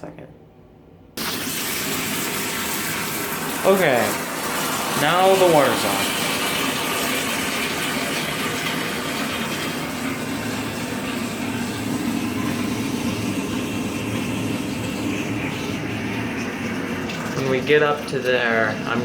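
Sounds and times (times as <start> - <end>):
water filling toilet tank: 1.2 - 19.0.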